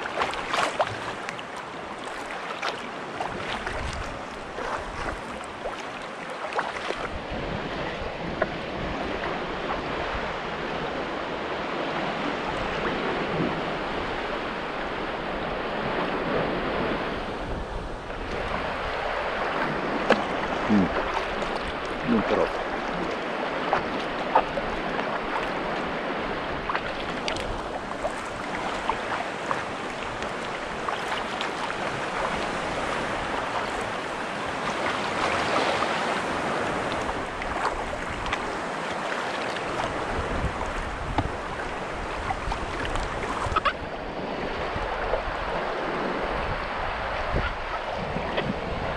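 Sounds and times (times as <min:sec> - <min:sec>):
sea water sloshing around kayak: 0:00.0 - 0:48.9
wind on microphone: 0:03.2 - 0:05.8, 0:06.9 - 0:38.8, 0:39.6 - 0:48.9.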